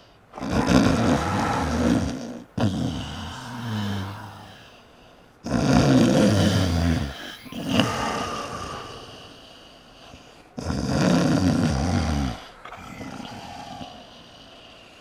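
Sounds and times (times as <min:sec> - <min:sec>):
loud snoring: 0:00.0 - 0:04.6, 0:05.4 - 0:09.4, 0:10.0 - 0:14.8.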